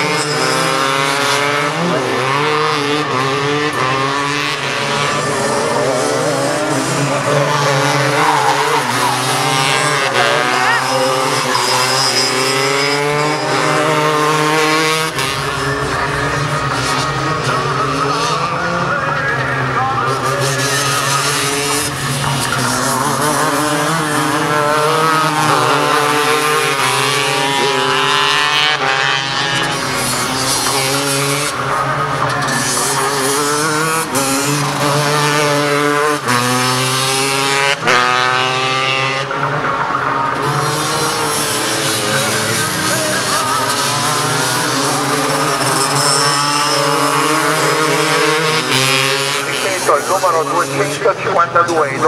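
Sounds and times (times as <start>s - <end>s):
kart engines revving past: 0.0s - 52.0s.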